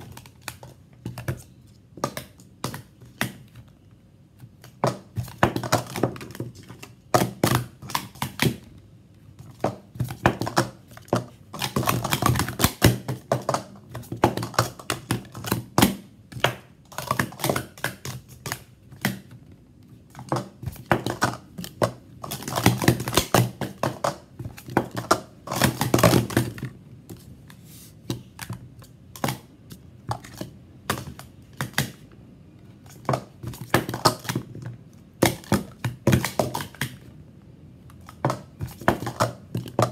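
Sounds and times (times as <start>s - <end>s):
plastic cups clacking and tapping: 0.0s - 3.6s, 4.5s - 8.7s, 9.4s - 19.4s, 20.1s - 27.2s, 28.0s - 32.0s, 32.9s - 37.1s, 37.9s - 39.9s.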